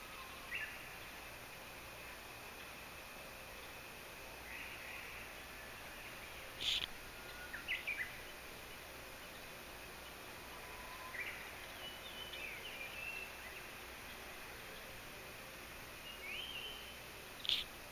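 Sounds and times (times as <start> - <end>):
background hiss: 0.0 - 17.9
bush warbler singing: 0.0 - 17.9.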